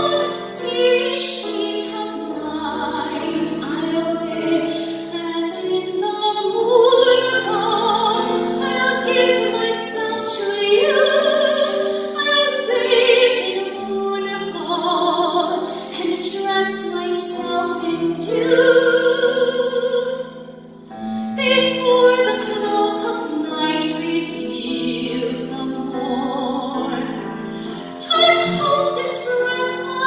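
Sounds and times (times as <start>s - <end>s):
woman singing soprano with vibrato: 0.0s - 20.4s, 21.3s - 30.0s
grand piano: 0.0s - 30.0s.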